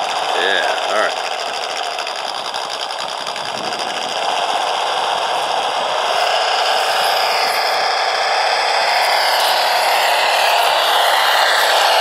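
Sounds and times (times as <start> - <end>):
electric motor and gears whining: 0.0 - 12.0
simulated truck engine sound: 0.0 - 12.0.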